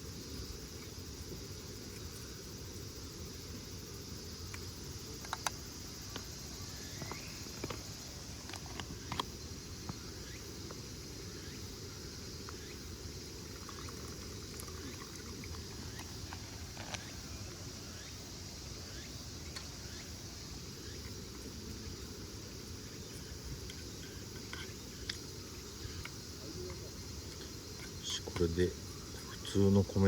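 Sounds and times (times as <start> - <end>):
insect drone: 0.0 - 30.0.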